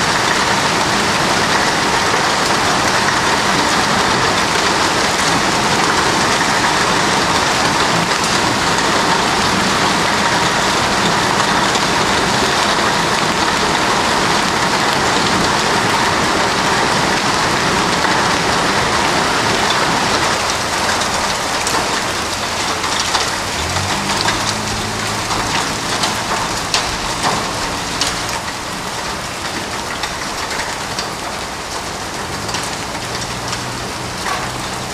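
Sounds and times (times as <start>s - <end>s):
hail and rain on pavement: 0.0s - 34.9s
hailstones clicking on hard surfaces: 0.1s - 34.9s.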